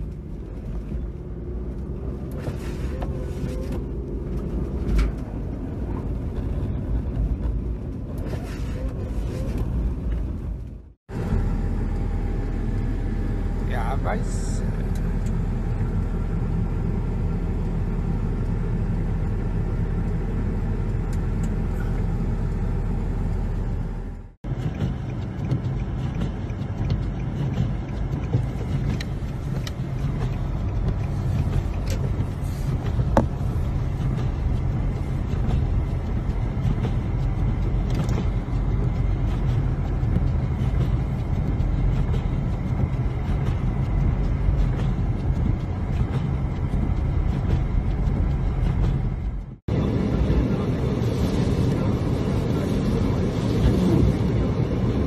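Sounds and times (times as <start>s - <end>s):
engine humming from inside cab: 0.0s - 55.0s
vehicle rumbling through blizzard: 0.0s - 55.0s.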